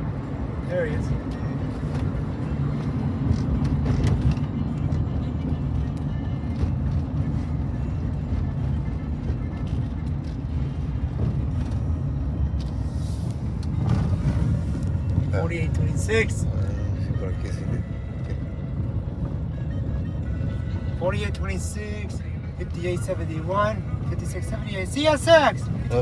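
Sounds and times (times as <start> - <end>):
diesel locomotives rumbling: 0.0 - 26.0.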